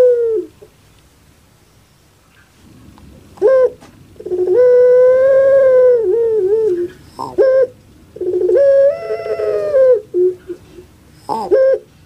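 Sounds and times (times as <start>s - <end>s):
dove cooing call: 0.0s - 0.8s, 2.1s - 12.0s.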